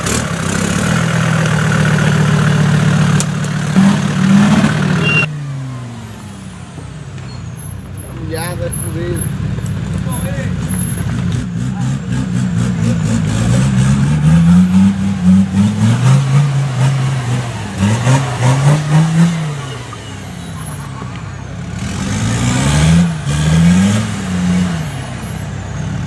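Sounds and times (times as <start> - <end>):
diesel engine revving hard: 0.0 - 26.0.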